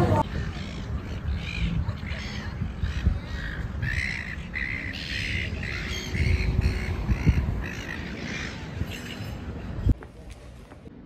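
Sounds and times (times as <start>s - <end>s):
seagulls squawking: 0.0s - 9.3s
steady low rumble: 0.0s - 11.0s.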